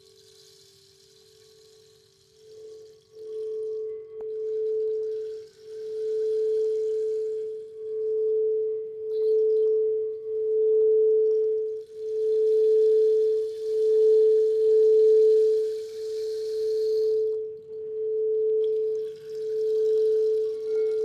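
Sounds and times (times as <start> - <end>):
singing bowl tone: 0.0 - 21.0.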